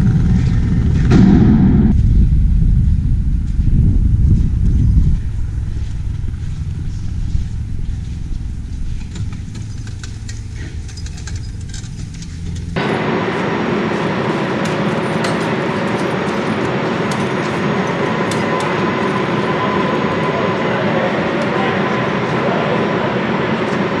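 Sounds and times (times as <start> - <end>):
faint steady whine: 0.0 - 24.0
low mechanical rumble: 0.0 - 24.0.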